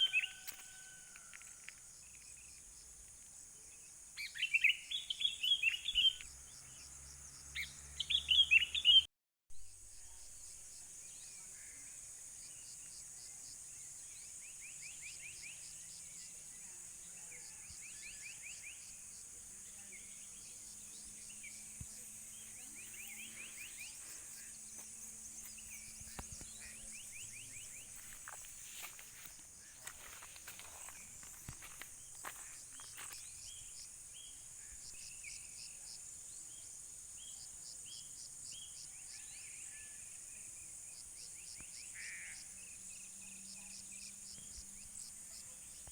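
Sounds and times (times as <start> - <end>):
insects chirring: 0.0 - 8.8, 9.9 - 45.9.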